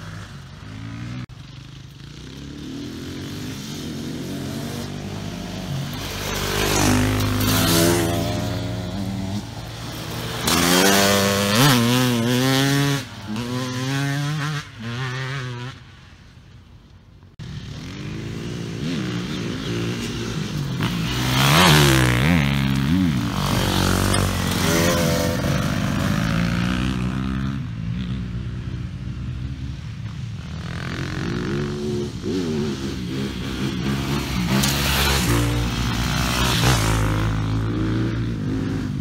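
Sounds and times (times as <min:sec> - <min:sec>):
dirt bikes revving past: 0:00.0 - 0:16.6, 0:17.4 - 0:39.0.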